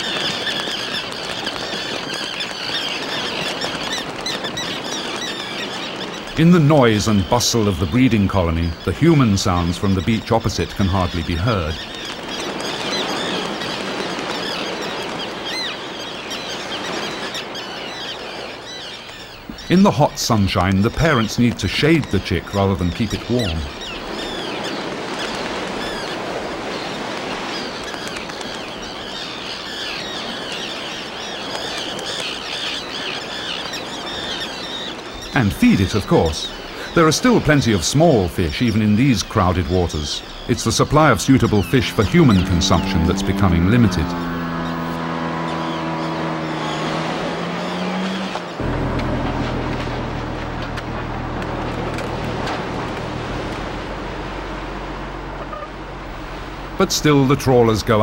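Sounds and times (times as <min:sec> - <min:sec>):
sea noise: 0:00.0 - 0:58.0
terns calling: 0:00.0 - 0:58.0
wind: 0:00.0 - 0:58.0
boat engine humming: 0:03.0 - 0:58.0.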